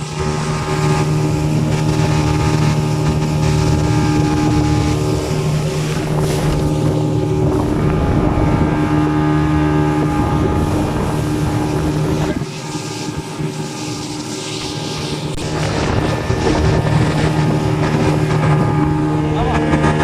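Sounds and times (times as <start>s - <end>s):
motorboat engine running: 0.0s - 20.0s
wind on microphone: 0.0s - 20.0s.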